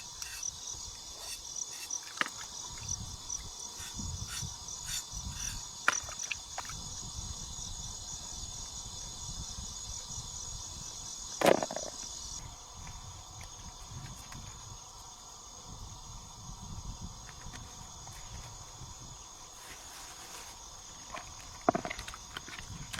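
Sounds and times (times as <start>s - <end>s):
insects trilling: 0.0s - 22.9s.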